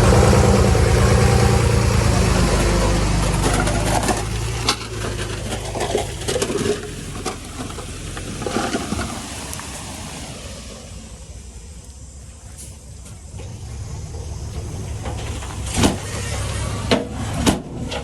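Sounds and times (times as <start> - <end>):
rock and soil clattering: 0.0 - 10.5, 12.6 - 18.0
diesel engine running: 0.0 - 18.0.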